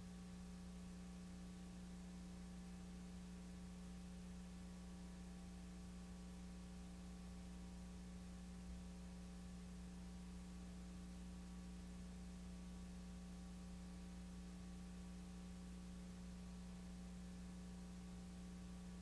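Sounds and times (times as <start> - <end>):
faint electrical hum: 0.0 - 19.0
tape hiss: 0.0 - 19.0.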